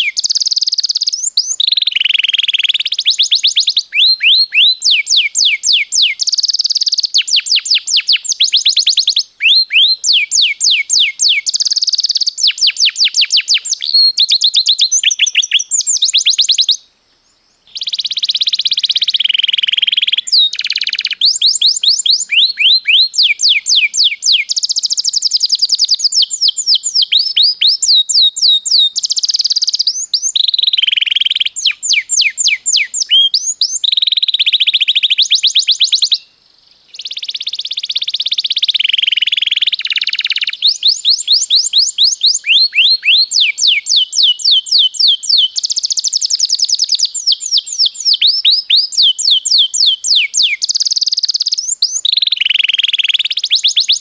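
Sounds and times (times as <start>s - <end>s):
canary singing rolling trills: 0.0s - 16.8s, 17.7s - 36.3s, 36.9s - 54.0s.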